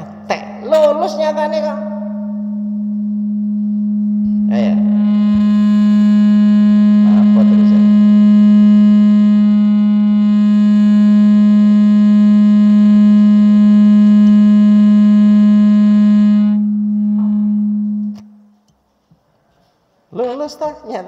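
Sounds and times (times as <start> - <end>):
sound system feedback howl: 0.0 - 18.5.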